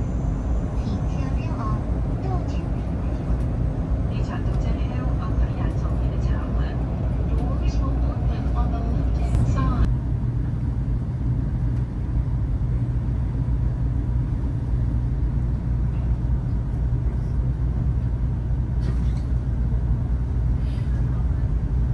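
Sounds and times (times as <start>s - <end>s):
train cabin rumble: 0.0s - 21.9s.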